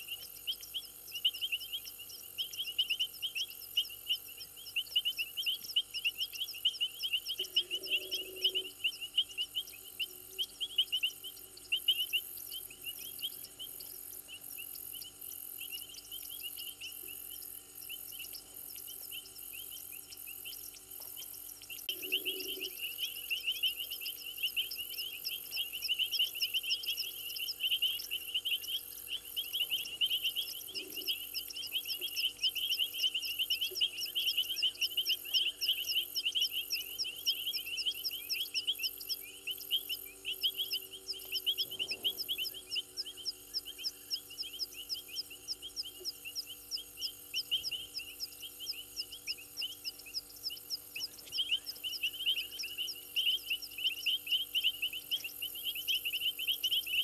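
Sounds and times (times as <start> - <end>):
frogs trilling: 0.0 - 57.0
pulsing insect buzz: 0.0 - 57.0.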